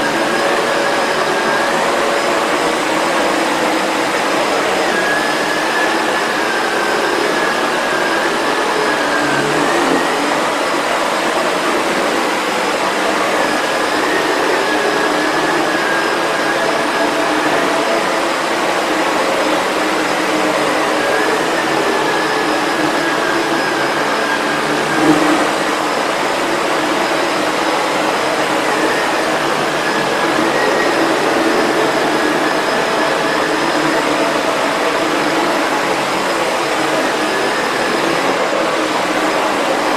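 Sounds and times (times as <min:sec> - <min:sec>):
vacuum cleaner running on rug: 0:00.0 - 0:39.9.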